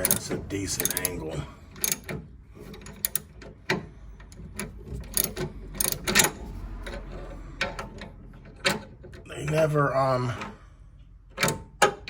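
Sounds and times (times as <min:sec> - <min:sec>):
hand ratchet clicking on metal: 0:00.0 - 0:10.4.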